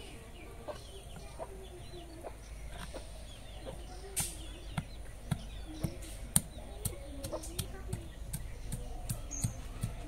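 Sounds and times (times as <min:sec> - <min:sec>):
chickens clucking: 0:00.0 - 0:10.0
faint bird chirps: 0:00.0 - 0:10.0.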